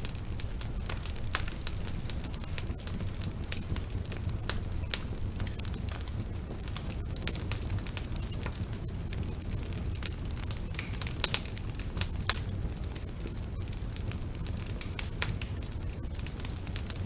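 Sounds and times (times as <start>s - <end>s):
fire popping and crackling: 0.0s - 17.0s
fire rumbling: 0.0s - 17.0s.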